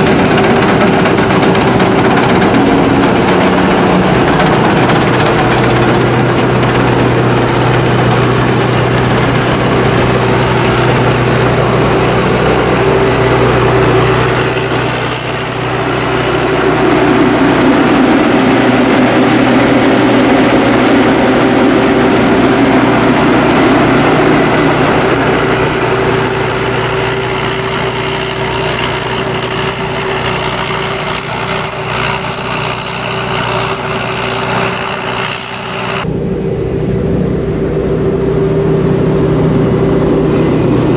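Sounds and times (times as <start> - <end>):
combine harvester running: 0.0 - 40.9
thin high whine: 0.0 - 40.9.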